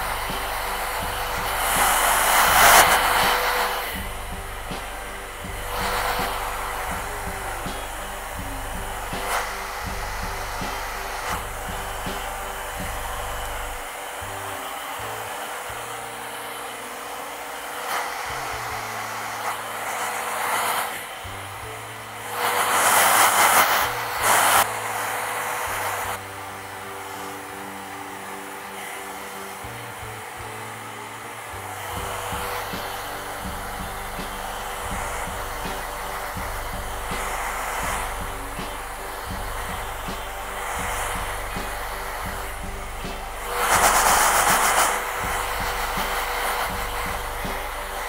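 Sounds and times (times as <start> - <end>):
background music: 0.0 - 48.0
hair dryer blowing: 0.0 - 48.0.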